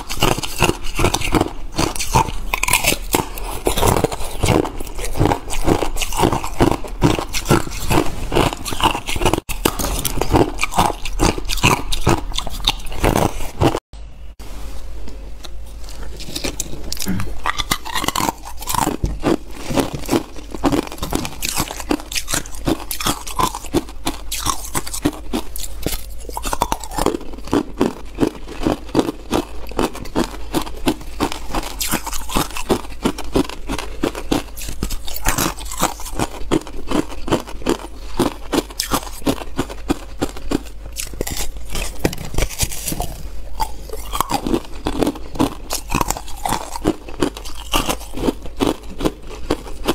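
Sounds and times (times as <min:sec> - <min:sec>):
ice cubes crunching: 0:00.0 - 0:13.8, 0:16.1 - 0:49.9.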